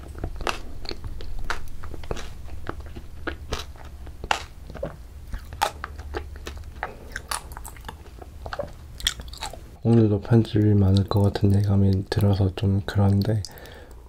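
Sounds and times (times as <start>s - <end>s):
chewing crunchy ice cream: 0.0s - 9.8s, 10.4s - 13.7s
low steady hum: 0.0s - 14.0s.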